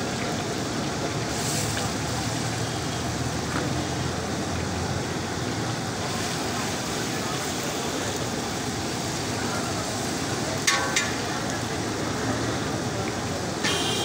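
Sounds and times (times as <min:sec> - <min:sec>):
food sizzling in bubbling oil: 0:00.0 - 0:14.0.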